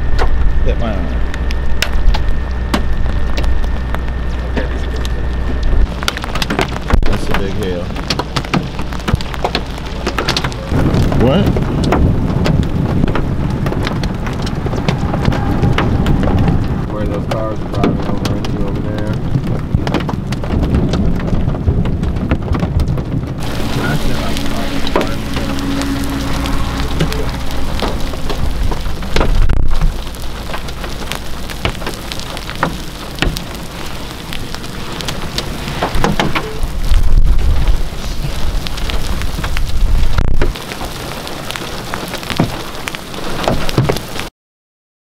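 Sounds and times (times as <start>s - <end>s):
low thunder rumbles: 0.0s - 44.3s
rain hiss: 0.1s - 22.3s, 23.3s - 44.3s
hail stones striking: 1.8s - 44.3s.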